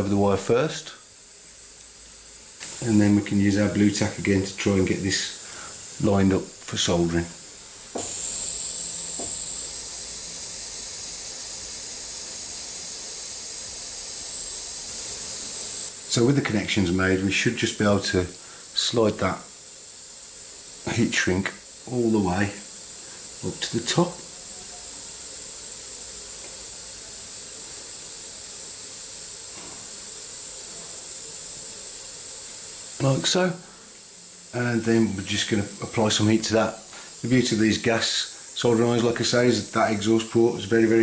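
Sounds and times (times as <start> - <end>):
gas soldering iron hissing: 0.0 - 41.0.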